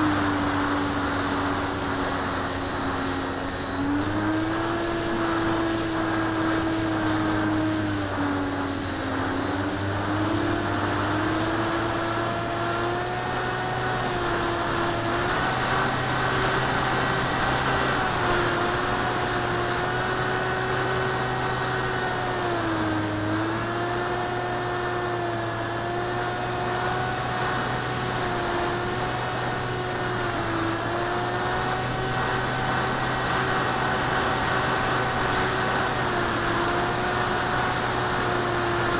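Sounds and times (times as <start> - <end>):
electric motor and propeller whining: 0.0 - 38.9.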